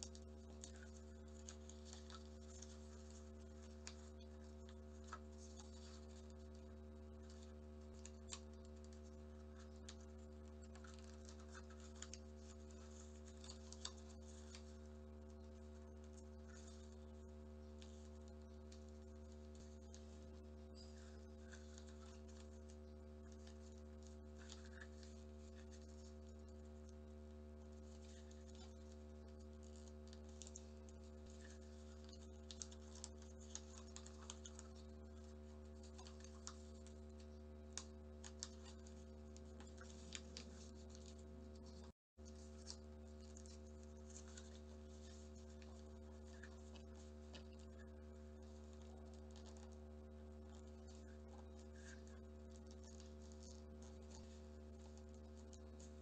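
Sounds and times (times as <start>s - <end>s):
low electrical hum: 0.0s - 56.0s
paper folding clicks and scratching: 0.0s - 56.0s.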